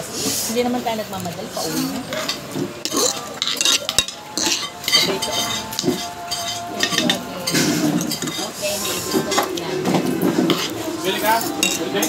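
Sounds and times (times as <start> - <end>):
cutlery scraping metal dish: 1.6 - 12.0.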